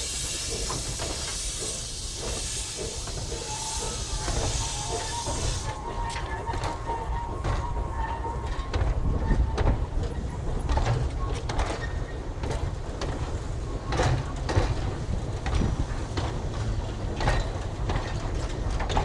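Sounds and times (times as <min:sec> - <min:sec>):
low rumble of train: 0:00.0 - 0:19.0
wagons clanking and clicking: 0:00.0 - 0:19.0.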